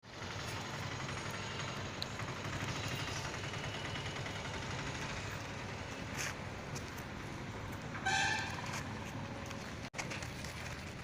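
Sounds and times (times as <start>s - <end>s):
machinery engine humming: 0.0s - 11.0s.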